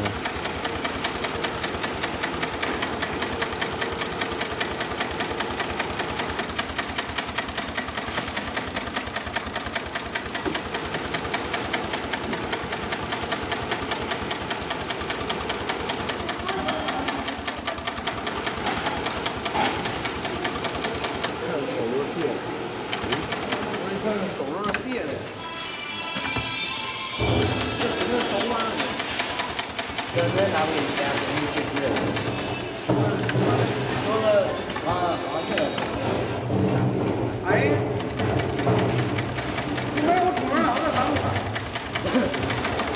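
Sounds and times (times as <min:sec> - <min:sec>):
industrial sewing machine stitching: 0:00.0 - 0:25.4, 0:27.2 - 0:33.4, 0:37.4 - 0:42.9.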